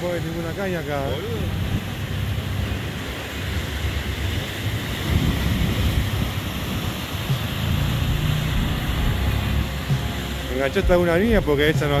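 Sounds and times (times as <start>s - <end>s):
waves breaking over rocks: 0.0s - 12.0s.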